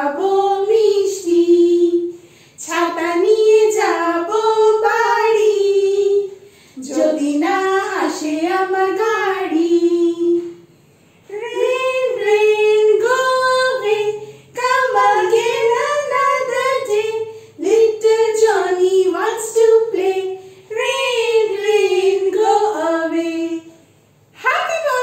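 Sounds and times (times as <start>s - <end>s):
women singing together: 0.0s - 10.7s, 11.3s - 25.0s.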